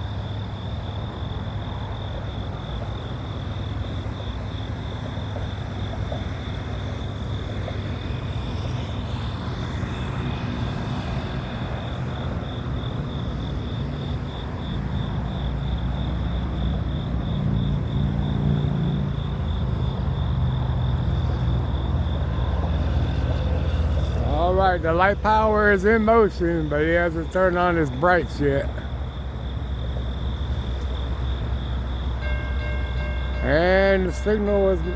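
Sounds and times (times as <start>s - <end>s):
diesel locomotive engines rumbling: 0.0s - 34.9s.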